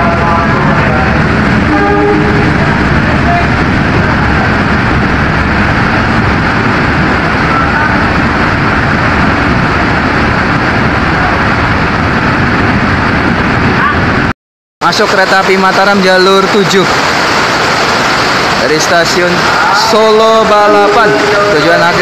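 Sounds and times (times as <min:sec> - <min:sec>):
train rolling past on rails: 0:00.0 - 0:22.0.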